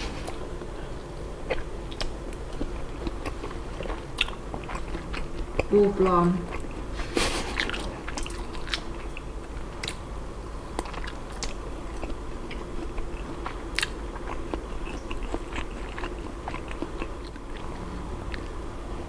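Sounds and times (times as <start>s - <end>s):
wet chewing mouth sounds: 1.4s - 10.0s, 10.7s - 17.7s.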